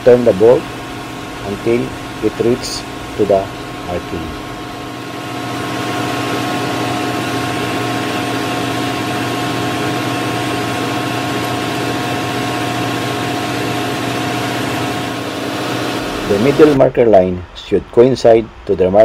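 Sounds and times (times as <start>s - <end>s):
steady whining tones: 0.0s - 17.5s
machinery droning: 0.0s - 19.0s.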